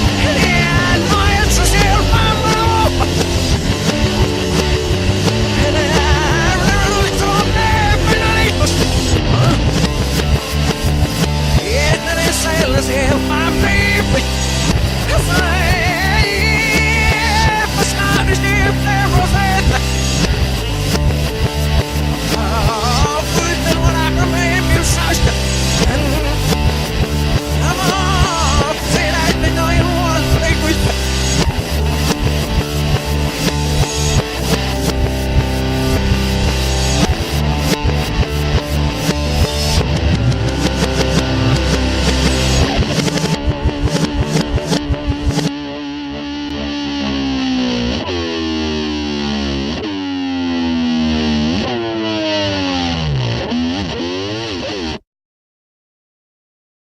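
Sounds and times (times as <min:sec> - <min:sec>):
distorted electric guitar: 0:00.0 - 0:55.0
hard rock music: 0:00.0 - 0:55.0.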